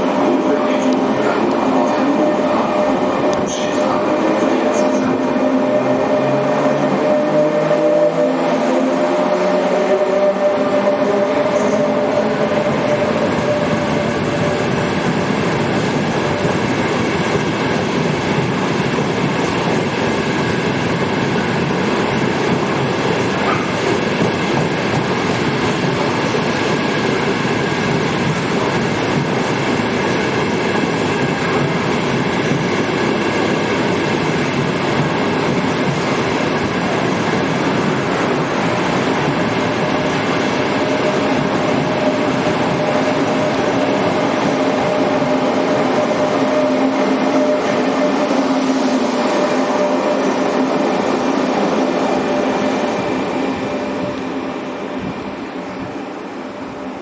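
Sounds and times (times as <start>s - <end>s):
train wheels on track: 0.0s - 57.0s.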